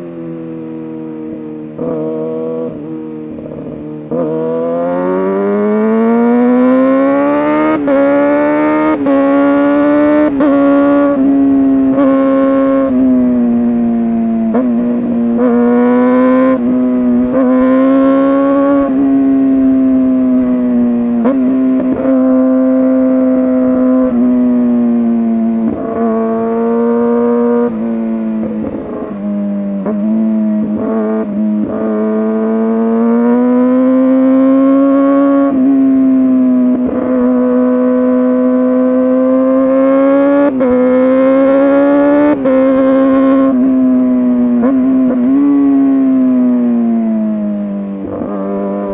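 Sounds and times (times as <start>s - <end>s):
motorcycle engine at high revs: 0.0s - 48.9s.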